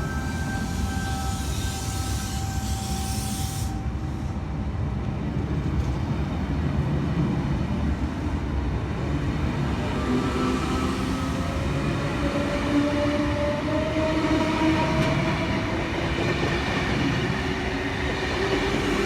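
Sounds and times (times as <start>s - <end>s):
electric train rumbling past: 0.0s - 19.0s.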